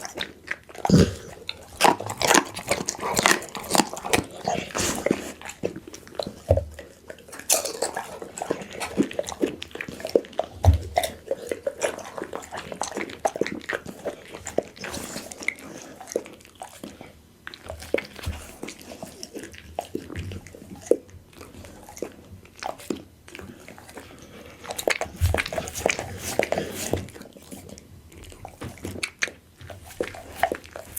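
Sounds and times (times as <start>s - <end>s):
dog chewing and crunching food: 0.0s - 30.9s.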